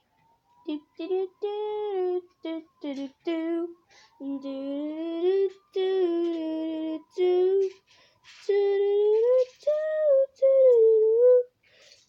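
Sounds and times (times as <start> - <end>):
young voice singing wordless tune: 0.6 - 11.6.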